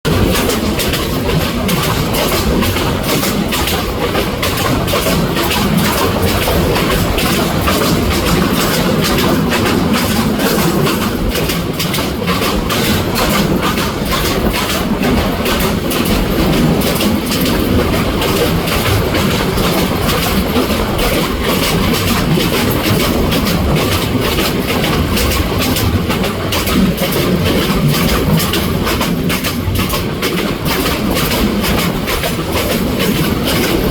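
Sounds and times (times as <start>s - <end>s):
train rumble: 0.1s - 33.9s
train wheels clattering: 0.1s - 33.9s.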